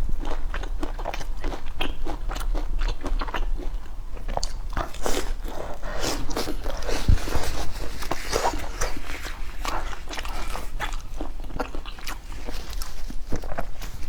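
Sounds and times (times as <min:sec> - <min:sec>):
person chewing crisp food: 0:00.0 - 0:14.0.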